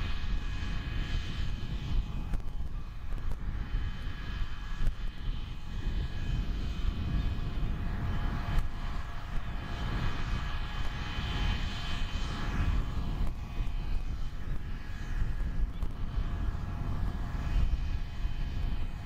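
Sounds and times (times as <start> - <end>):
low wind rumble: 0.0 - 19.0.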